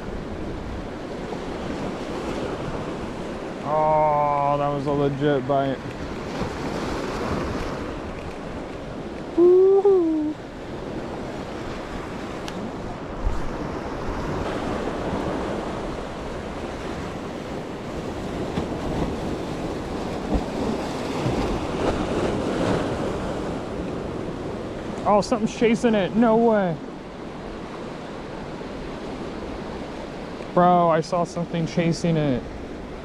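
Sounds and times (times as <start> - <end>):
surf washing on rocks: 0.0 - 33.0.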